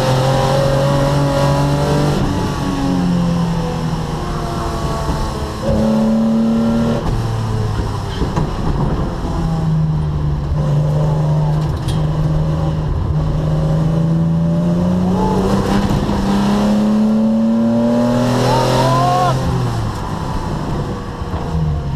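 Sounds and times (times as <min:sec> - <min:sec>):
racing engine revving: 0:00.0 - 0:07.9, 0:10.5 - 0:21.9.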